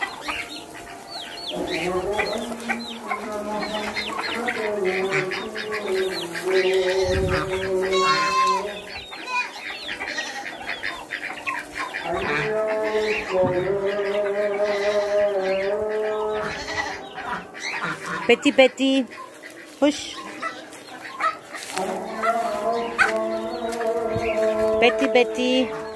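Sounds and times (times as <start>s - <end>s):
chickens clucking: 0.0s - 25.9s
chicks cheeping: 0.0s - 25.9s.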